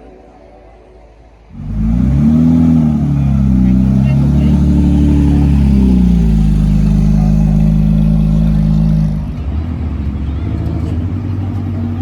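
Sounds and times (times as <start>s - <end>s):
car engine running: 1.5s - 12.0s.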